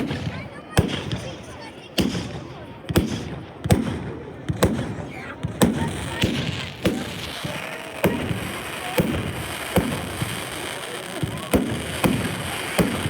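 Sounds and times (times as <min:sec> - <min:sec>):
fireworks banging with echoes: 0:00.0 - 0:13.0.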